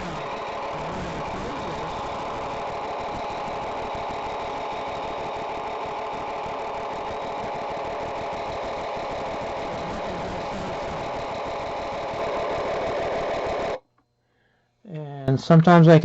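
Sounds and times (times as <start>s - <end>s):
simulated engine drone from speaker: 0.0s - 13.8s.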